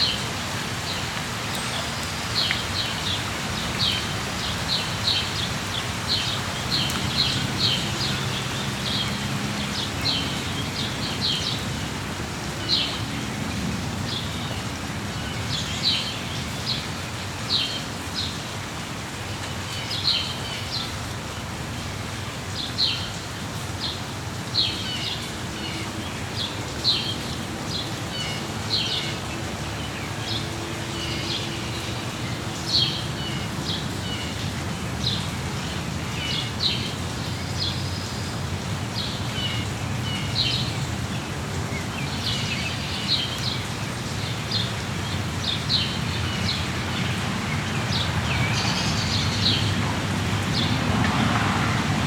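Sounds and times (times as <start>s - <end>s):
rain hiss: 0.0s - 52.0s.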